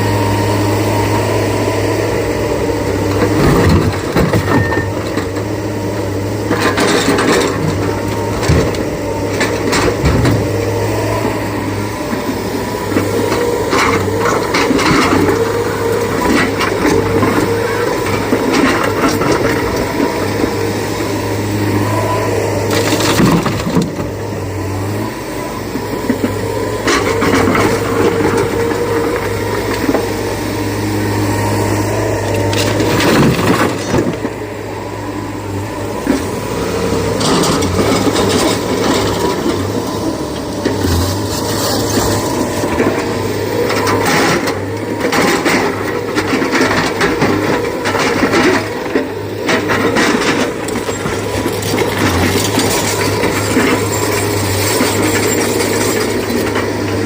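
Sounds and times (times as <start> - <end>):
diesel excavator engine running: 0.0 - 57.0.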